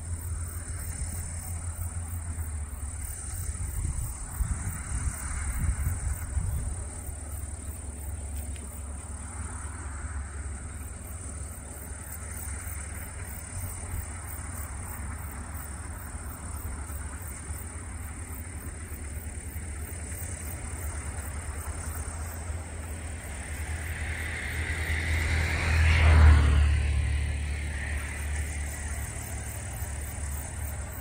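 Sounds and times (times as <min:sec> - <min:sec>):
combine harvester running: 0:00.0 - 0:31.0.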